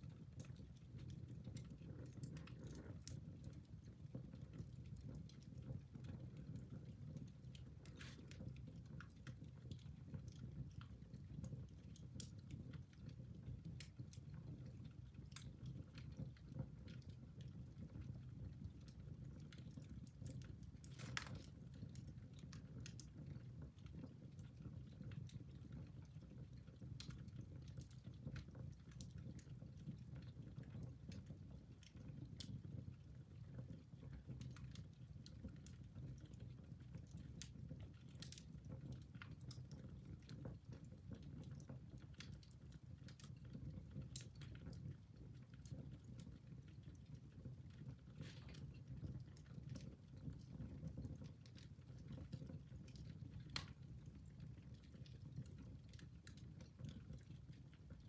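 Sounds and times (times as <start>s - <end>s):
wood crackling and popping: 0.0s - 58.0s
flames burning: 0.1s - 58.0s.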